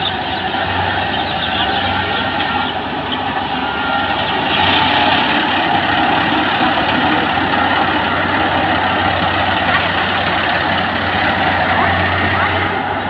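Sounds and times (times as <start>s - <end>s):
harvester engine running: 0.0s - 13.0s.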